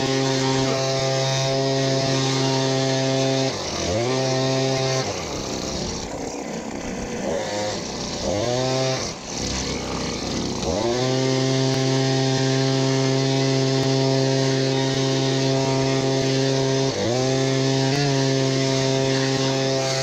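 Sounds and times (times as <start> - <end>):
petrol leaf blower engine: 0.0 - 20.0.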